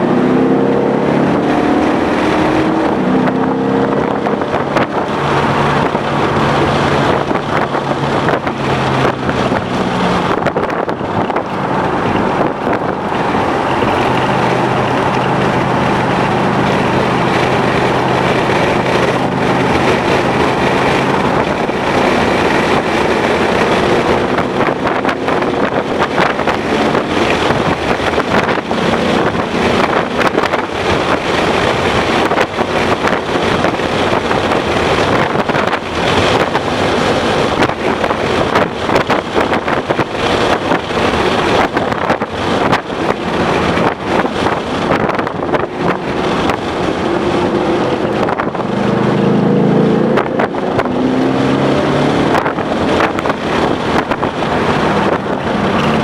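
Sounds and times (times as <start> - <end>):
car engine running hard: 0.0 - 56.0
wind buffeting microphone: 0.0 - 56.0.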